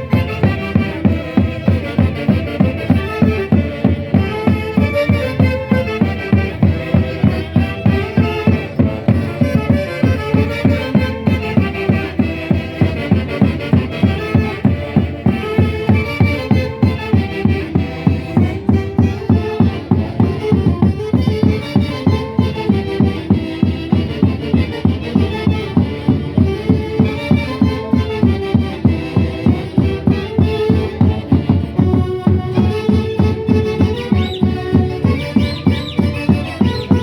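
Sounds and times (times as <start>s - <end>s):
band playing dance tune: 0.0s - 37.0s.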